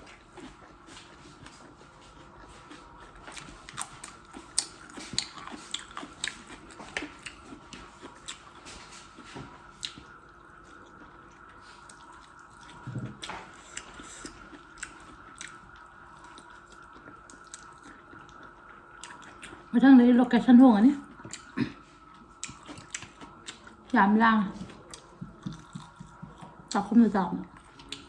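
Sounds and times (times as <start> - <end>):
mouth chewing and smacking: 0.0 - 19.7, 21.0 - 23.9, 24.6 - 28.0.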